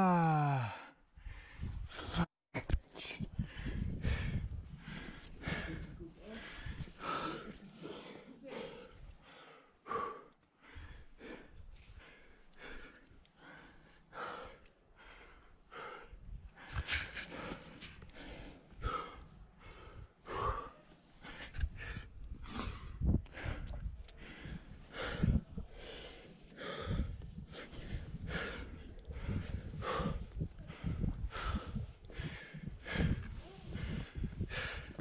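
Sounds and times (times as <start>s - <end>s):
person breathing hard: 3.0s - 35.0s.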